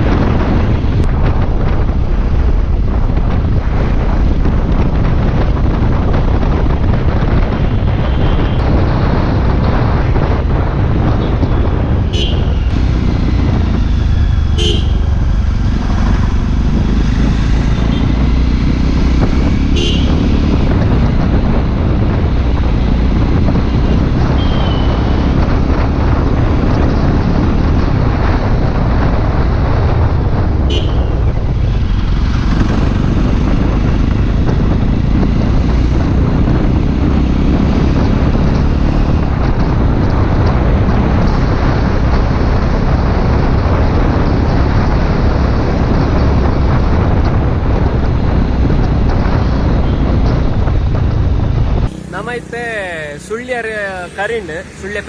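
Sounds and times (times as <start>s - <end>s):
motorcycle engine and tyres: 0.0s - 55.0s
wind buffeting microphone: 0.0s - 55.0s.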